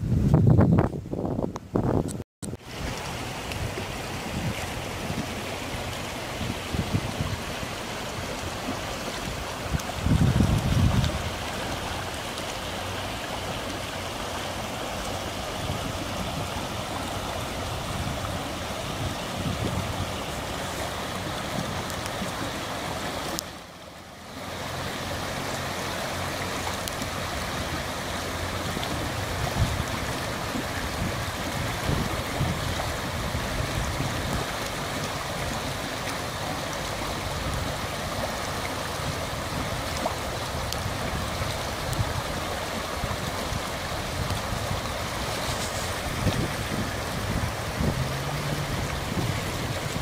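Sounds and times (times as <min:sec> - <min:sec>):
floodwater rushing: 0:02.0 - 0:50.0.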